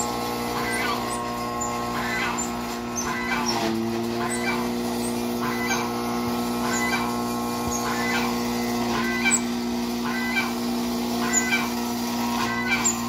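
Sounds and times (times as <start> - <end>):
chopper machine humming: 0.0 - 13.0.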